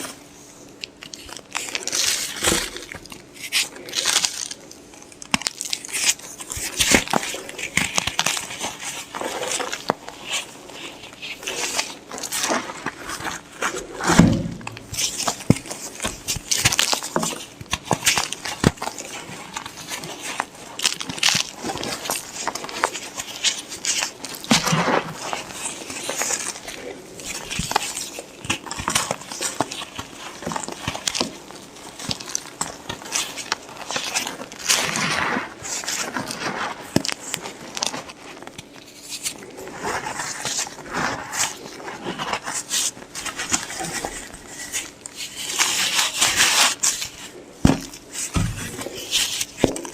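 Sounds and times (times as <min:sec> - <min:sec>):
chalk crushed crackling: 0:05.3 - 0:49.9.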